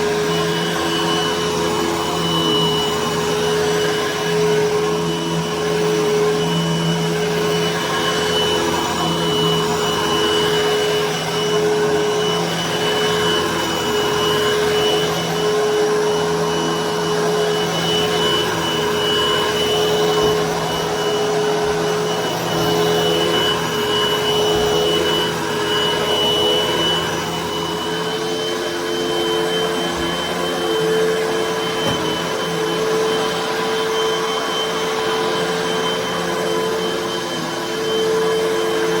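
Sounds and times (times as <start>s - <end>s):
vacuum cleaner running on carpet: 0.0s - 39.0s.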